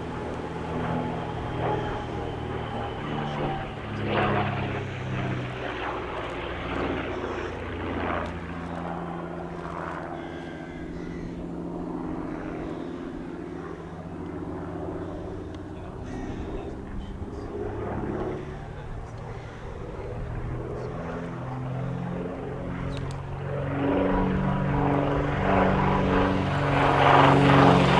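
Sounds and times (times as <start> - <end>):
piston aircraft engines droning: 0.0 - 27.9.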